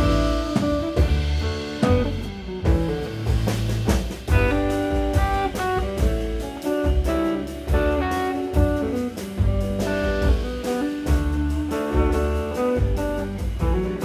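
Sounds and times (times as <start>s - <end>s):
double bass: 0.0s - 14.0s
drum kit and cymbals: 0.0s - 14.0s
electric guitar melody: 0.0s - 14.0s.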